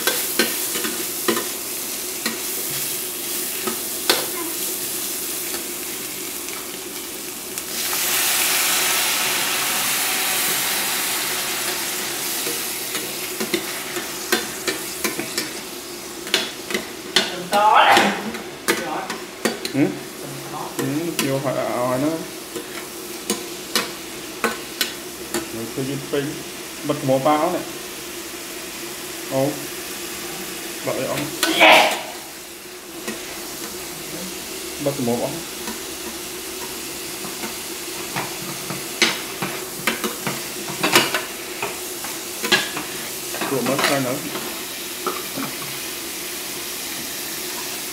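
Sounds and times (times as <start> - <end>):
food sizzling: 0.0 - 47.9.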